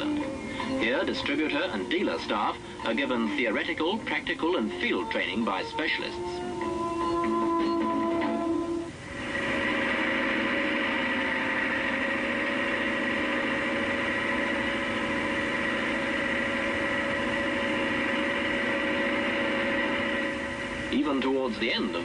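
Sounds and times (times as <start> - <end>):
music: 0.0 - 22.0
tractor diesel engine running: 0.0 - 22.0.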